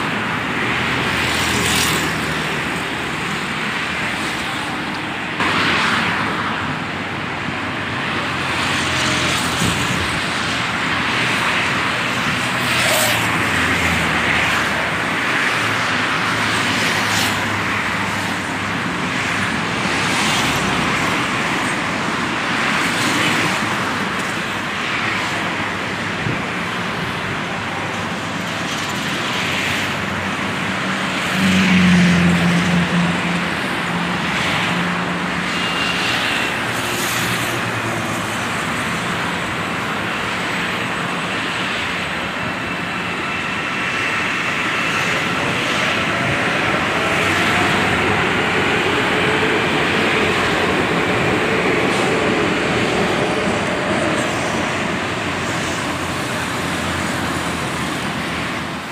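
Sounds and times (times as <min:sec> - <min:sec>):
road traffic noise: 0:00.0 - 0:58.9.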